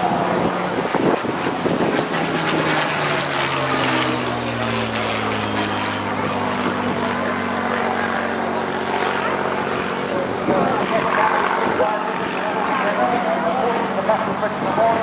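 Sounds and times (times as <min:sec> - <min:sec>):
aircraft engine droning: 0:00.0 - 0:15.0
wind buffeting microphone: 0:00.0 - 0:15.0.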